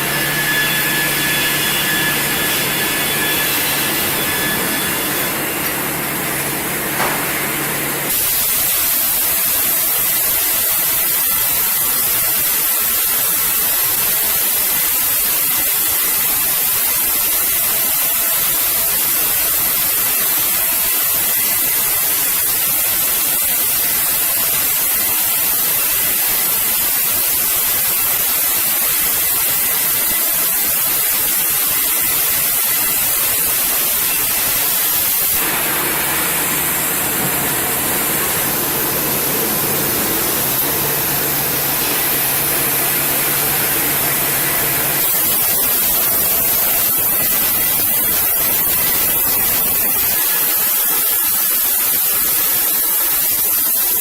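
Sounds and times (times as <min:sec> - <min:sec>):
loud steady hiss: 0:00.0 - 0:54.0
machine with steady tones: 0:00.0 - 0:54.0.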